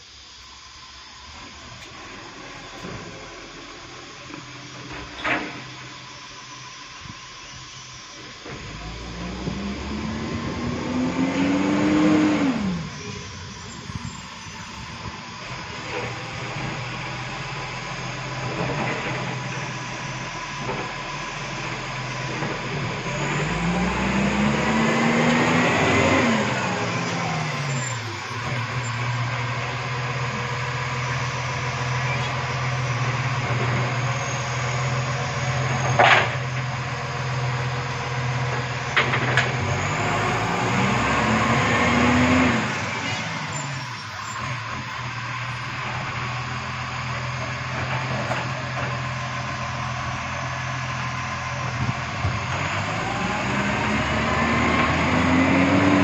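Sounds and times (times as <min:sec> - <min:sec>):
garbage truck engine revving: 0:08.3 - 0:56.0.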